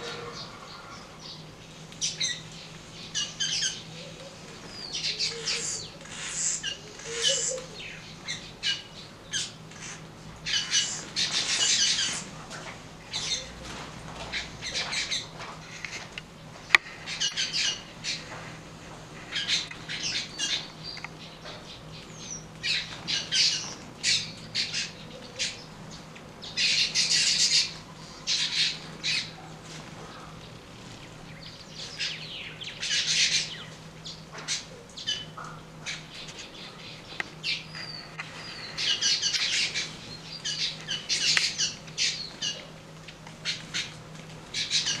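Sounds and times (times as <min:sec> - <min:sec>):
flock of birds chattering: 0:00.0 - 0:45.0.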